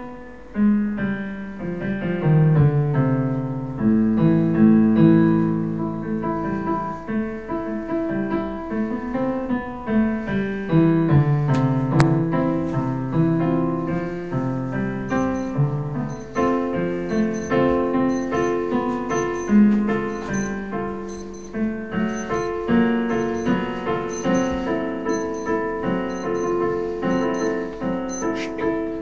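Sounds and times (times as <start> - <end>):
piano tune: 0.0 - 29.0.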